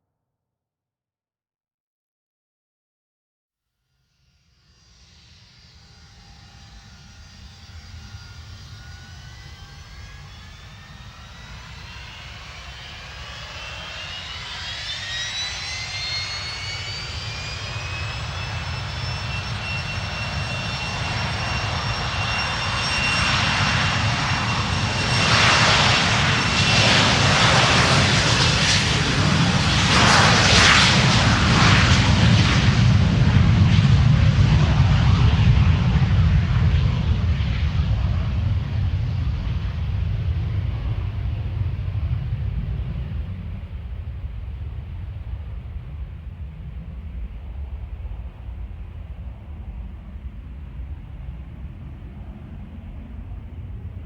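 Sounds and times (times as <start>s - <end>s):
jet engine spooling up: 5.1s - 54.0s.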